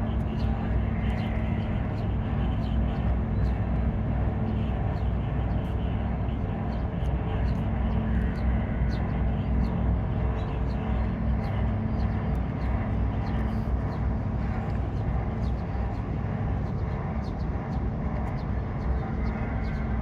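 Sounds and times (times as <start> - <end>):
constant engine hum: 0.0 - 20.0.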